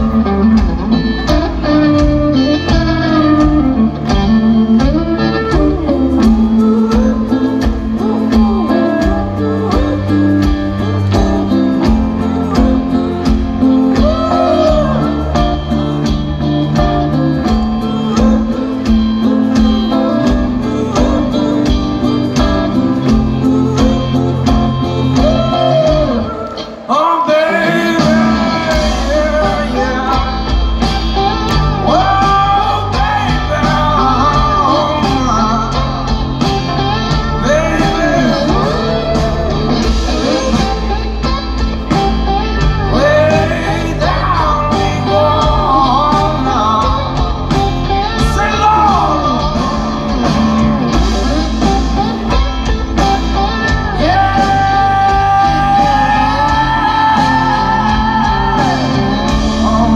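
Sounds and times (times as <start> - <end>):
bass: 0.0 - 59.9
electric guitar: 0.0 - 59.9.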